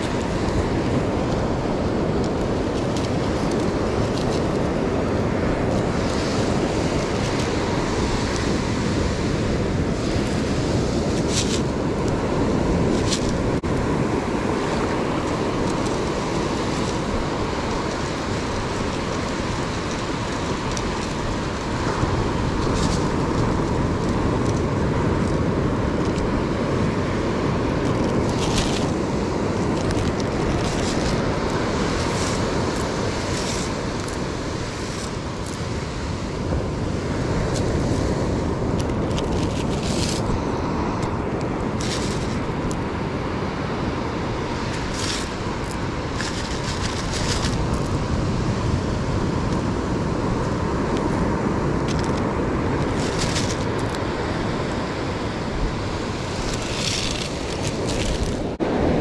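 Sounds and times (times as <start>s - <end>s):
surf washing up beach: 0.0s - 59.0s
wind buffeting microphone: 0.0s - 59.0s.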